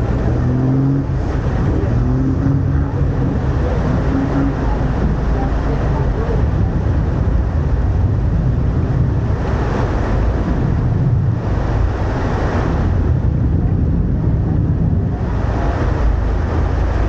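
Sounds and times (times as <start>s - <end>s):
boat engine rumble: 0.0s - 17.0s
water rushing along hull: 0.0s - 17.0s
wind buffeting microphone: 0.0s - 17.0s.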